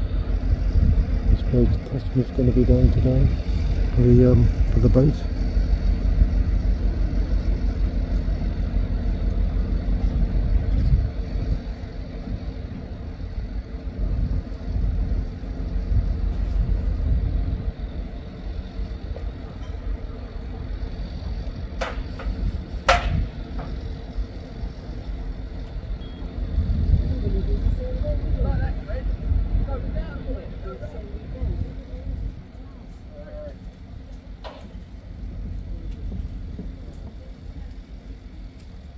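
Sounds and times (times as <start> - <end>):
boat hoist engine rumbling: 0.0 - 38.9.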